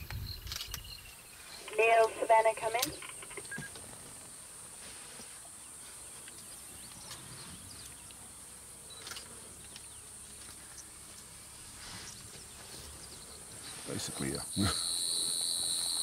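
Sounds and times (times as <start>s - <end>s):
faint ticks and rustles: 0.0s - 16.0s
insects droning: 0.0s - 16.0s.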